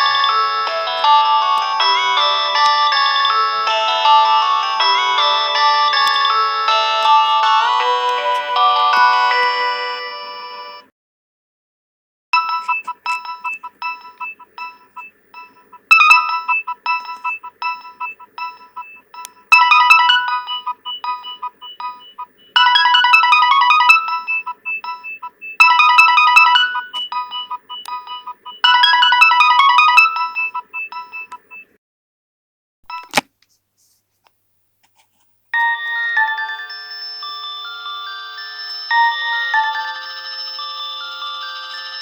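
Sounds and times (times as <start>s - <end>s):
mobile phone ringtone melody: 0.0s - 10.9s, 12.4s - 31.6s, 35.6s - 42.0s.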